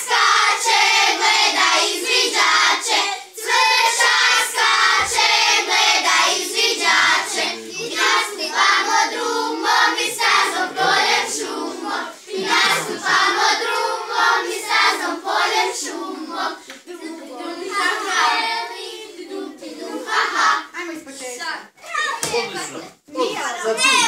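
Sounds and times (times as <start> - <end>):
children singing in unison: 0.0 - 20.7.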